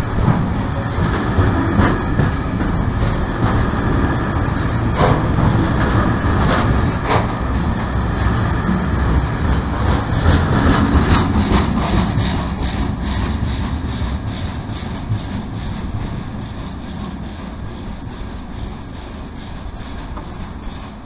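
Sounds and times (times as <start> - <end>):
low rumble of wheels on rail: 0.0 - 21.0.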